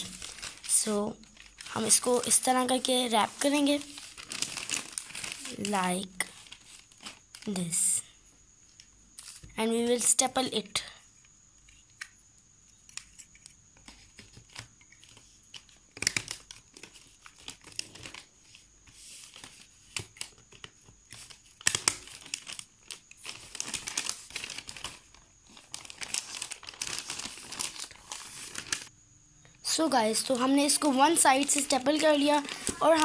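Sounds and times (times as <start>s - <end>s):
glossy paper crinkling: 0.0s - 7.9s, 12.9s - 28.9s, 30.2s - 33.0s.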